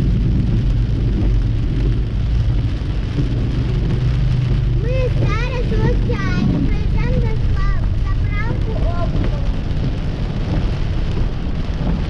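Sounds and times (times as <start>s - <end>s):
engine and road hum: 0.0s - 12.0s
rain hitting car windshield: 0.0s - 12.0s.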